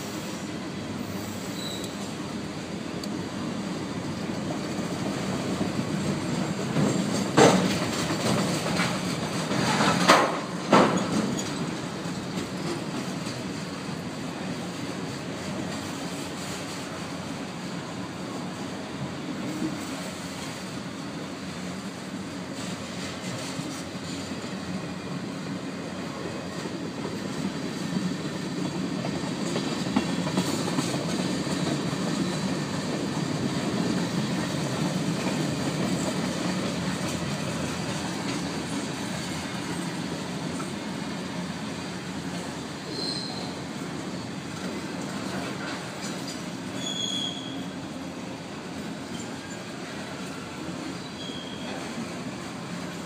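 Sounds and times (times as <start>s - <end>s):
high squeaks of train: 0.0s - 53.0s
train wheels rumbling on rail: 0.0s - 53.0s.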